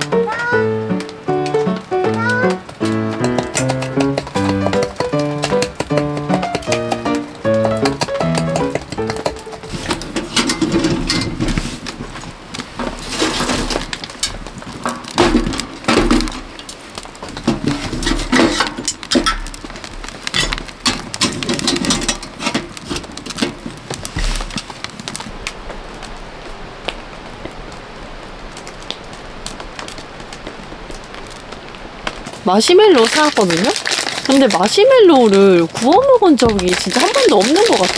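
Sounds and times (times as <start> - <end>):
firewood crackling and popping: 0.0 - 37.9.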